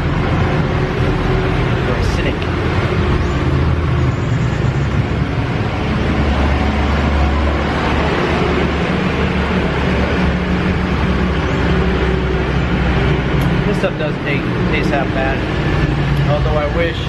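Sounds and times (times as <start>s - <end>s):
traffic noise: 0.0s - 17.0s
vehicle engine humming: 0.0s - 17.0s.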